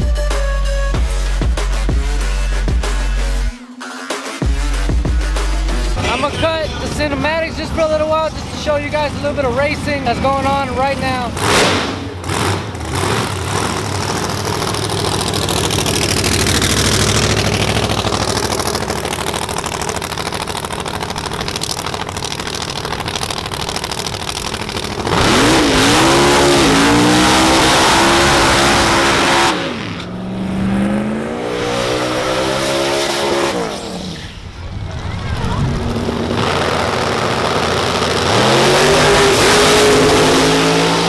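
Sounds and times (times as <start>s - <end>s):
drag racing engines roaring: 5.4s - 41.0s.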